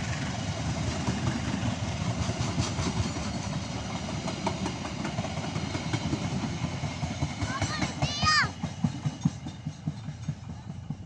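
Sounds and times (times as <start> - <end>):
train rumbling past: 0.0 - 11.0
wheels clicking over rail joints: 0.1 - 11.0.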